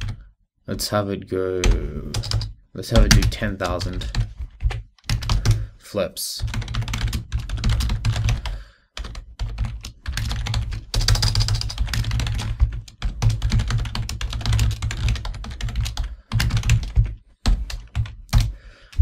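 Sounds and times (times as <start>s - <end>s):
rapid keyboard typing: 0.0s - 0.2s, 1.6s - 5.7s, 6.4s - 18.6s.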